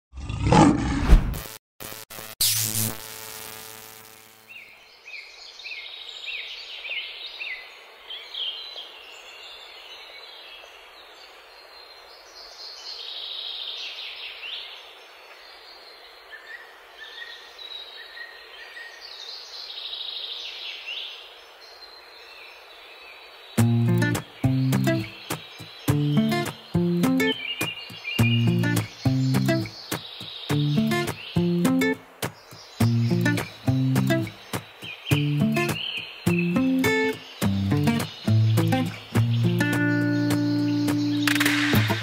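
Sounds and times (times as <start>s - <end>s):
songbirds chirping and singing: 4.5s - 42.0s.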